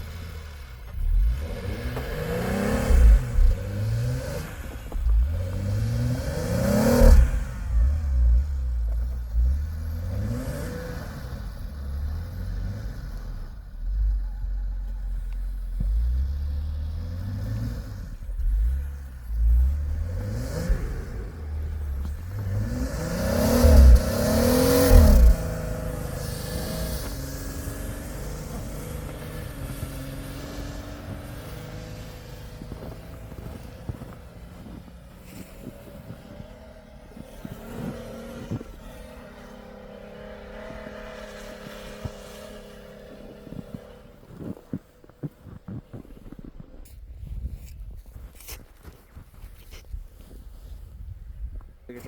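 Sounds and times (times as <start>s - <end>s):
vehicle engine revving: 0.0s - 46.6s.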